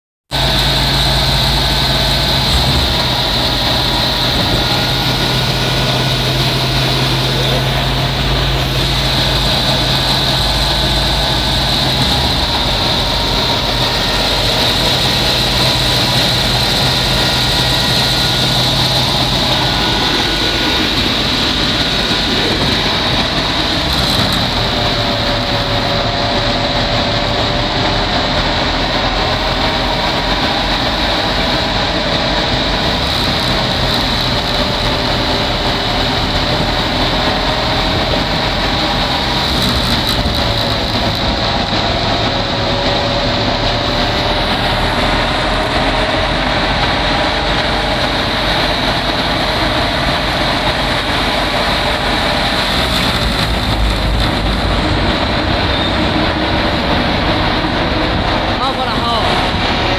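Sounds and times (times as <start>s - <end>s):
thresher machine droning: 0.3s - 59.9s.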